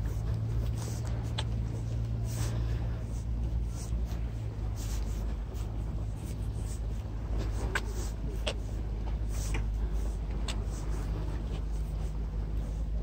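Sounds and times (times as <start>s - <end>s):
faint distant voices: 0.0s - 13.0s
low engine hum: 0.0s - 13.0s.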